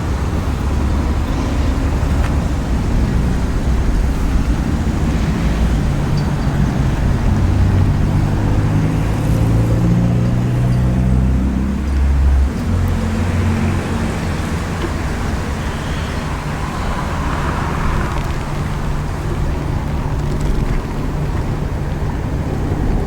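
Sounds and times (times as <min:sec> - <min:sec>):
car engine accelerating: 0:00.0 - 0:23.0
road noise: 0:00.0 - 0:23.0.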